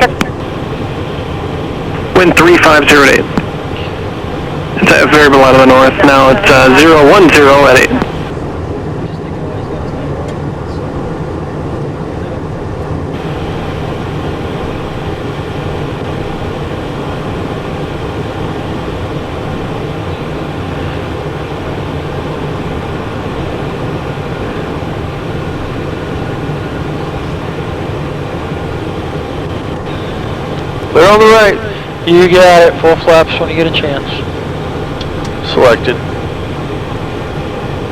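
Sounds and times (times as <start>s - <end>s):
airflow rushing over airframe: 0.0s - 37.9s
jet engines humming: 0.0s - 37.9s.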